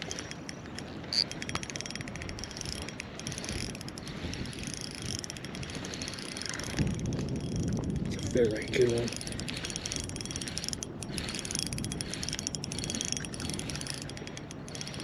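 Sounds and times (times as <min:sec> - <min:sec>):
fishing reel clicking: 0:00.0 - 0:15.0.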